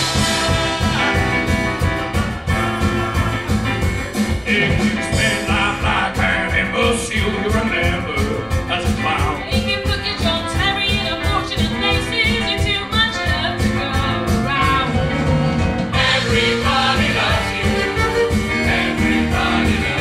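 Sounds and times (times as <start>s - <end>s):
band with steady beat: 0.0s - 20.0s.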